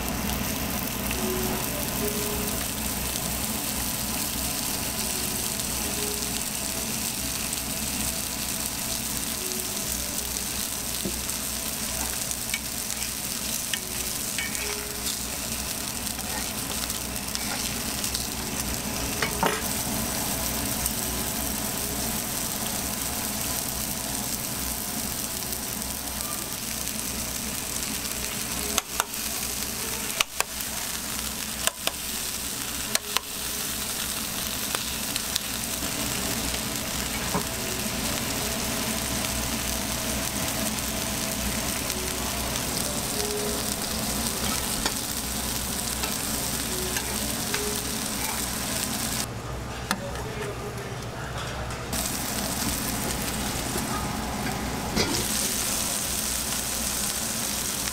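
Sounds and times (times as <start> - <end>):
burger patties sizzling on griddle: 0.0 - 49.3, 52.0 - 57.9.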